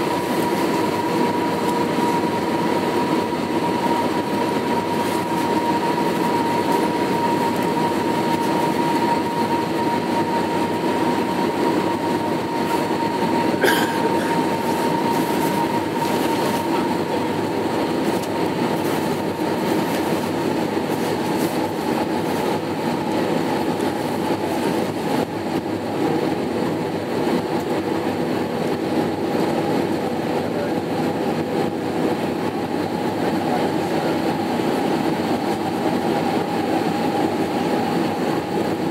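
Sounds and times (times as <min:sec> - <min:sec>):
airplane cabin drone: 0:00.0 - 0:38.9
jet engines whining: 0:00.0 - 0:38.9.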